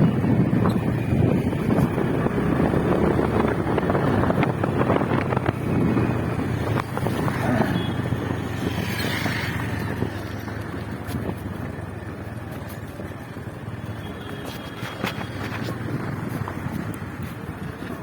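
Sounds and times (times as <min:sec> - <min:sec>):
wind buffeting microphone: 0:00.0 - 0:13.7, 0:14.4 - 0:18.0
motorcycle engine: 0:00.0 - 0:18.0
road noise: 0:00.0 - 0:18.0.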